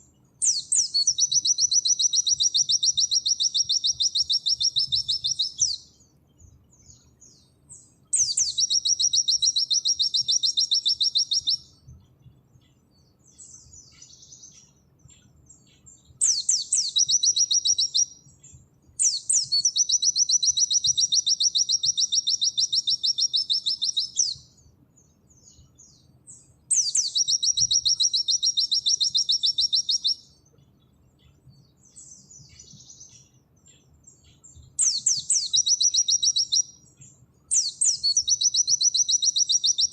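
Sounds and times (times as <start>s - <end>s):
bird singing fast trills: 0.0s - 39.9s
soft bird twittering: 0.0s - 39.9s.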